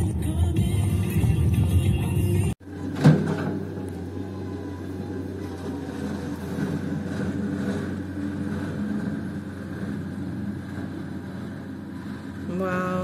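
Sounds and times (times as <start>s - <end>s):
loader engine humming: 0.0s - 13.0s.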